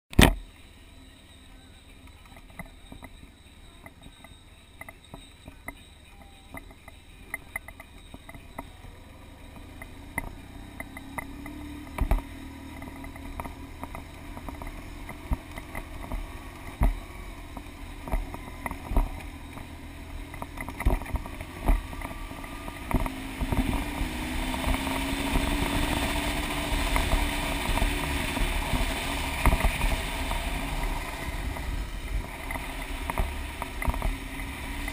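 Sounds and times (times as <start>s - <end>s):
motorcycle engine rumble: 0.1s - 34.9s
gravel knocks and clatter: 2.0s - 34.9s.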